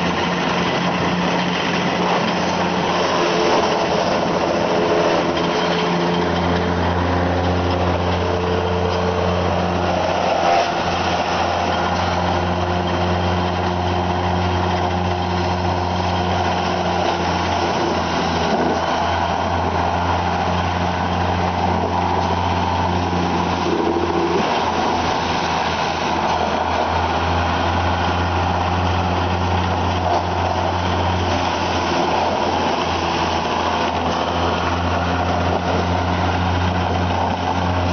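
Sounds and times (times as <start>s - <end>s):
wood chipper running: 0.0s - 37.9s.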